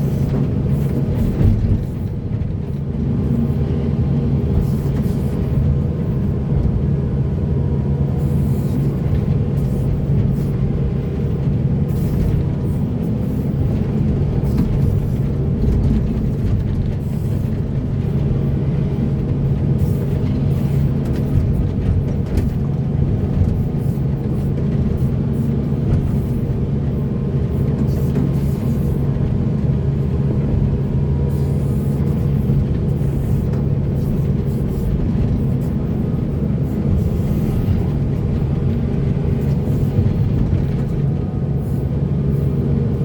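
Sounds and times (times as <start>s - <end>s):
heavy diesel engine under load: 0.0s - 43.0s.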